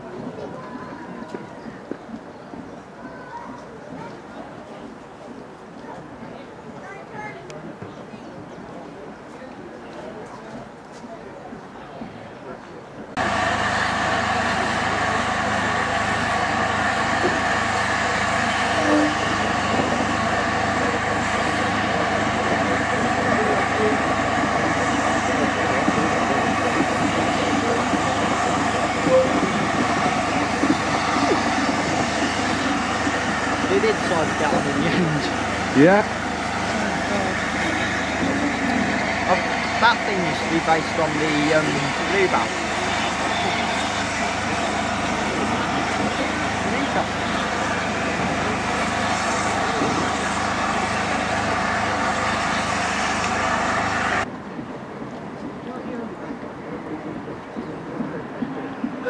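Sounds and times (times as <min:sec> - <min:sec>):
steam locomotive running: 0:00.0 - 0:59.0.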